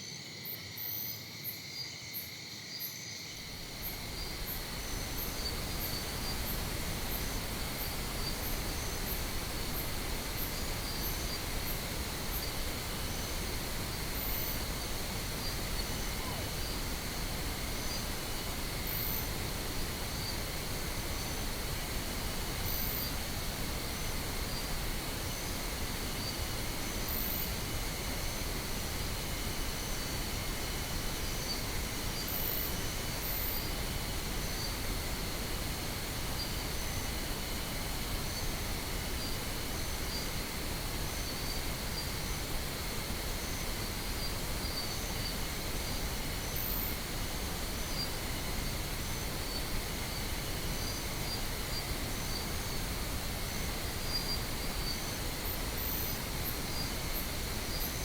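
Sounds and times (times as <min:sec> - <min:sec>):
crickets chirping: 0:00.0 - 0:58.0
steady pink noise hiss: 0:00.0 - 0:58.0.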